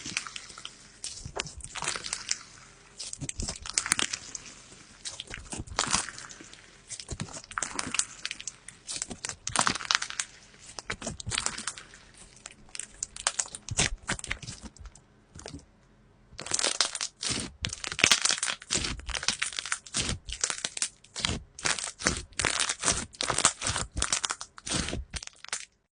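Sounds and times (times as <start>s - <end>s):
slime crackling and popping: 0.0s - 15.6s, 16.4s - 25.8s.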